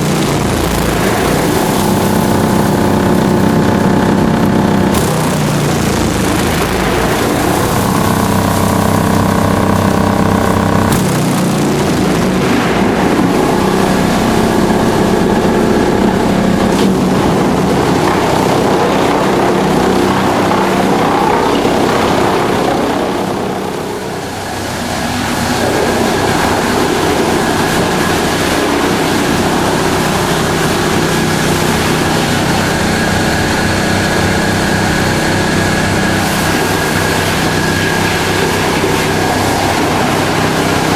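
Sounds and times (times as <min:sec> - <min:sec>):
wood chipper running: 0:00.0 - 0:40.9.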